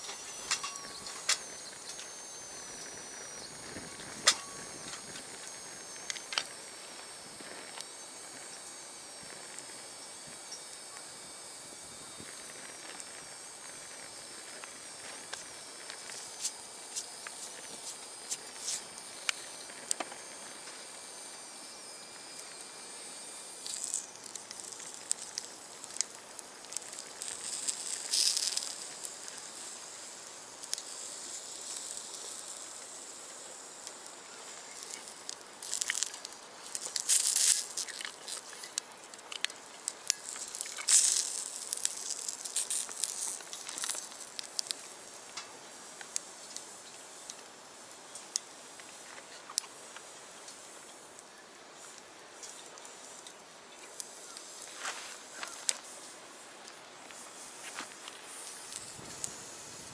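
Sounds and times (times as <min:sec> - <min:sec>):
wood fire crackling and popping: 0:00.0 - 0:55.9, 0:56.6 - 0:59.9
hissing sizzle: 0:00.0 - 0:59.9.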